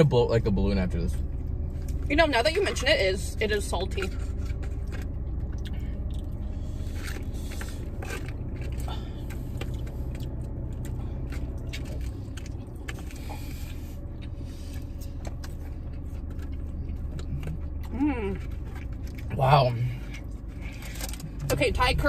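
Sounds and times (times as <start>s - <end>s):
car cabin rumble: 0.0s - 22.0s.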